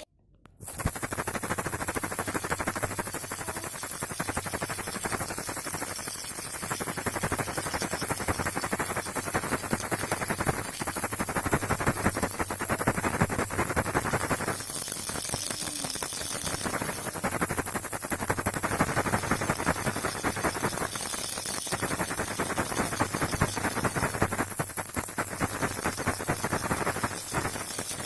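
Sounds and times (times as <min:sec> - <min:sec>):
baby rattle shaken: 0:00.6 - 0:28.0
steady hiss: 0:00.6 - 0:28.0.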